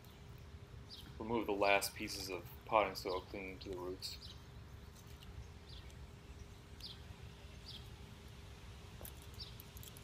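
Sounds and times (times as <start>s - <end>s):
low background rumble and hum: 0.0s - 10.0s.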